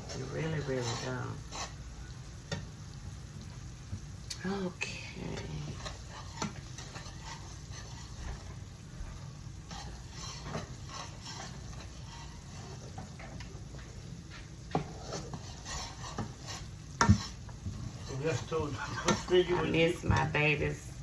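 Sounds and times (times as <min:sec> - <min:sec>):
spoon scraping in a pan: 0:00.0 - 0:03.8, 0:05.1 - 0:21.0
faint sizzle: 0:00.0 - 0:21.0.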